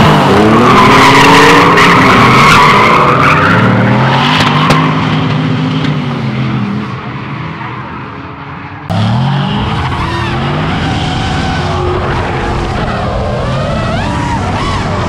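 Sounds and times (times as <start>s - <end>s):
drift car engines revving: 0.0s - 8.0s, 8.9s - 15.0s.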